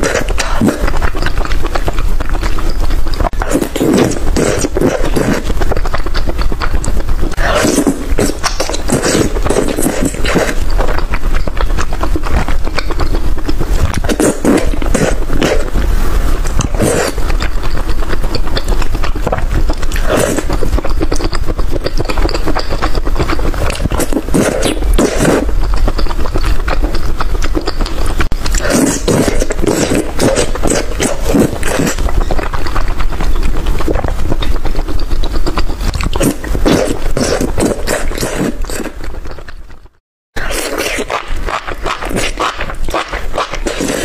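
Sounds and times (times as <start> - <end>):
chewing and mouth noises: 0.0 - 44.0.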